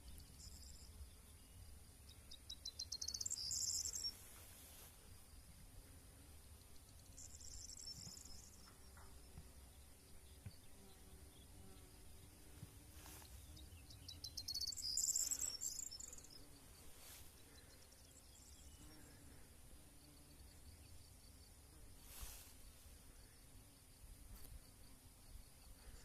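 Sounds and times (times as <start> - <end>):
insects trilling: 0.0 - 12.4, 13.0 - 26.0.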